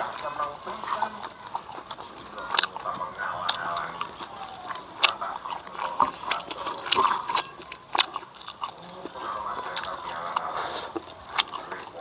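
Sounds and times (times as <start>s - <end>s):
man chewing food: 0.0s - 12.0s
wet lip smacks and clicks: 0.0s - 12.0s.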